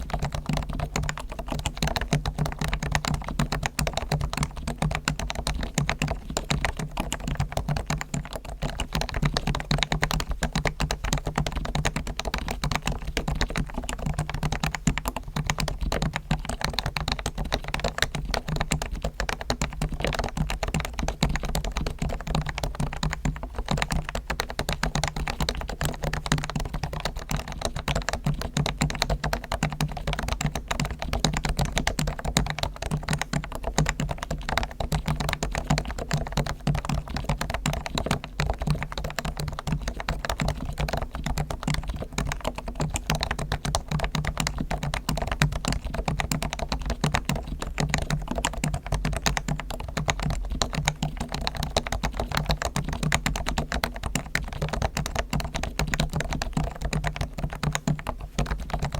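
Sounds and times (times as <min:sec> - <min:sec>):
fast keyboard typing: 0:00.0 - 0:58.9.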